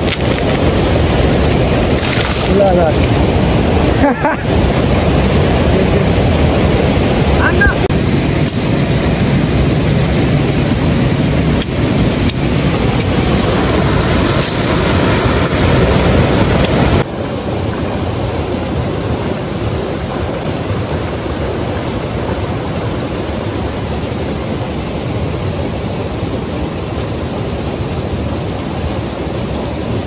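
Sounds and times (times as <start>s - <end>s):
river rushing over boulders: 0.0s - 30.0s.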